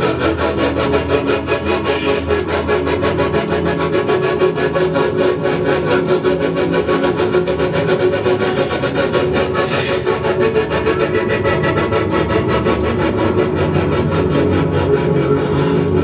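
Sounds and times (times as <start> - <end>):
electronic noise music: 0.0 - 16.0.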